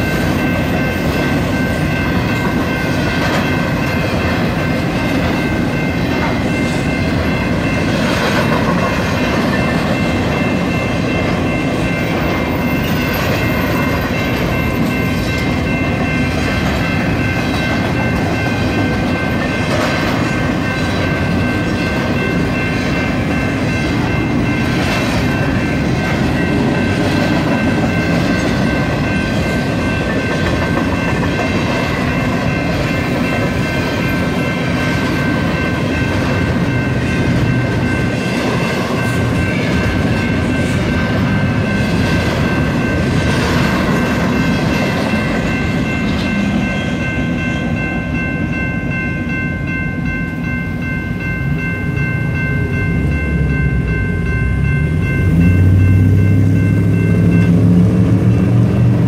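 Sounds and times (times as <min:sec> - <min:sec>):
freight cars rumbling: 0:00.0 - 0:59.0.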